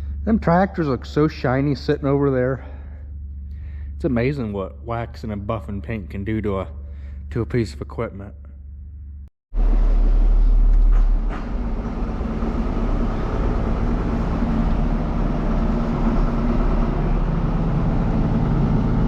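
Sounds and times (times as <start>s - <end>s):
diesel engine running: 0.0s - 7.7s, 9.6s - 19.0s.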